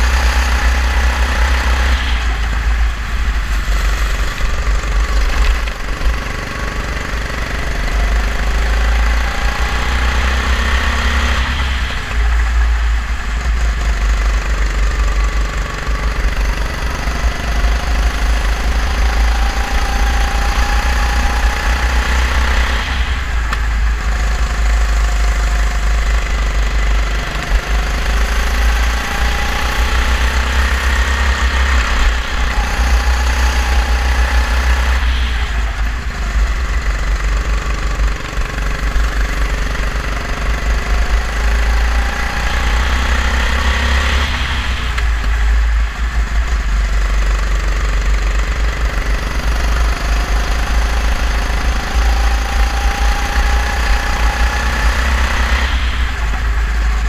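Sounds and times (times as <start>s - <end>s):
kart engine revving: 0.0s - 57.0s
low rumble: 0.0s - 57.0s.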